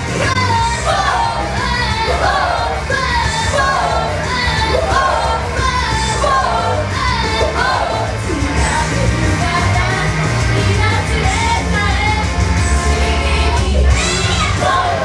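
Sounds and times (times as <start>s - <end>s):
loud backing track: 0.0s - 15.0s
women singing pop song: 0.2s - 15.0s.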